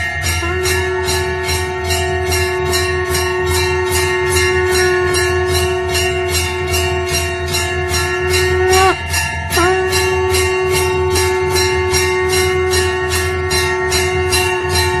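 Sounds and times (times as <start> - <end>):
ringing drone tone: 0.0 - 15.0
small bells jingling: 0.0 - 15.0.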